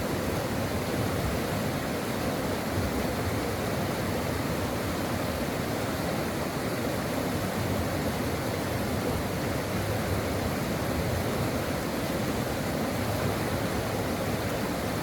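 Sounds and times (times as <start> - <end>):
brook flowing: 0.0 - 15.0.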